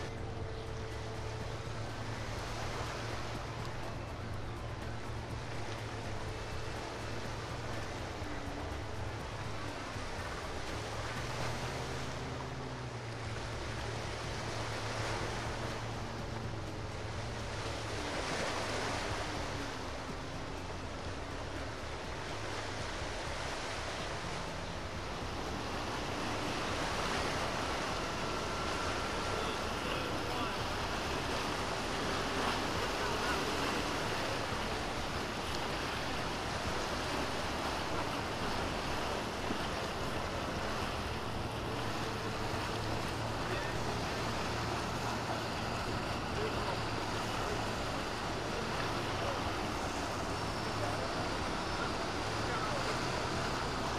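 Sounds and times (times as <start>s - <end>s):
low boat engine hum: 0.0s - 53.9s
water rushing from boat wake: 0.0s - 53.9s
waves in a choppy sea: 0.0s - 53.9s.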